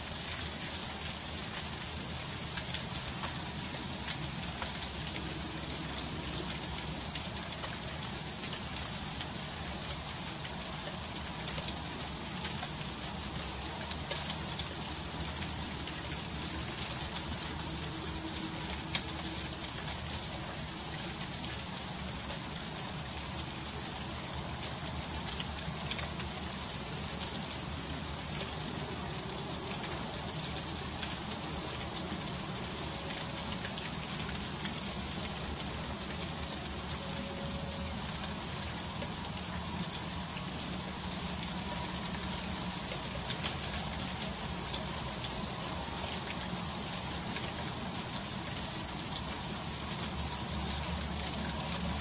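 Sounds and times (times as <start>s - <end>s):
freezing rain patter: 0.0s - 52.0s.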